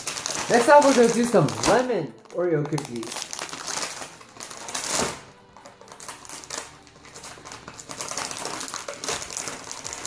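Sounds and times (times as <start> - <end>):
background music: 0.0 - 10.0
plastic packaging crinkling: 0.0 - 10.0.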